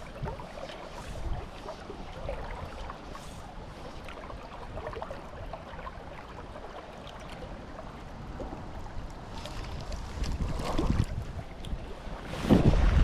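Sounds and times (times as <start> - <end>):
river water gurgling: 0.0 - 13.0
small water splashes: 0.0 - 13.0.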